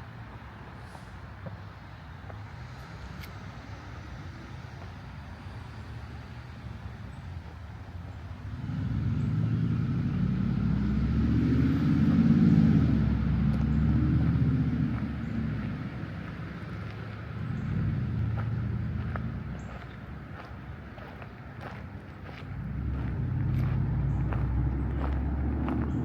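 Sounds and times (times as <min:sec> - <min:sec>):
vehicle passing rumble: 0:00.0 - 0:26.0.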